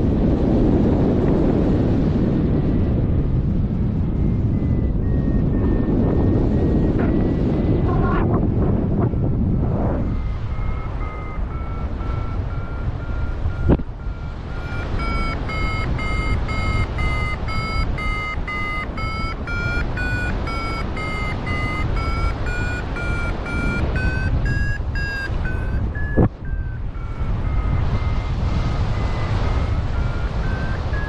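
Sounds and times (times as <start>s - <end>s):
wind noise on microphone: 0.0s - 31.0s
variometer beeps: 4.0s - 31.0s.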